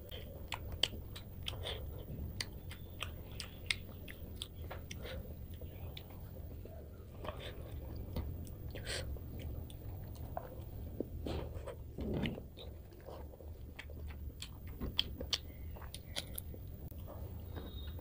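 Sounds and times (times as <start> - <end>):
low steady hum: 0.0 - 18.0
chewing and wet mouth smacks: 0.1 - 11.0, 12.2 - 18.0.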